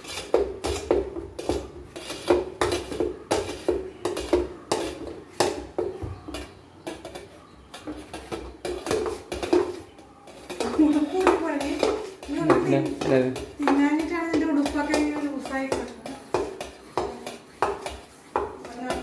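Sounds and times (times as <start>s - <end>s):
spoon stirring in metal pot: 0.0s - 19.0s.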